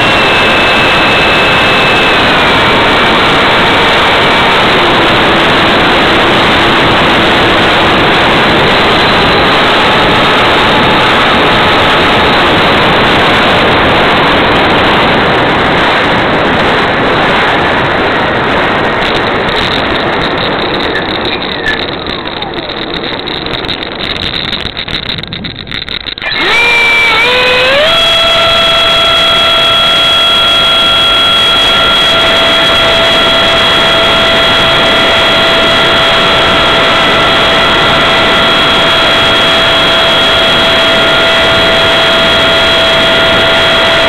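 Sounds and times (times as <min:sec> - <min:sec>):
electric ducted fan whine: 0:00.0 - 0:44.0.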